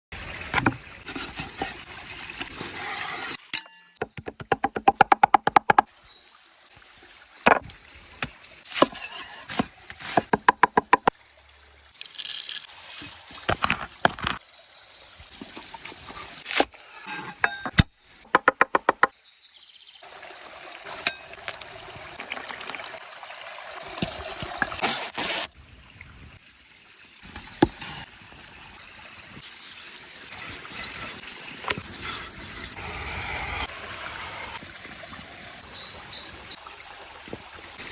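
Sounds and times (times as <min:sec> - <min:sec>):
trickling water: 0:00.1 - 0:37.9.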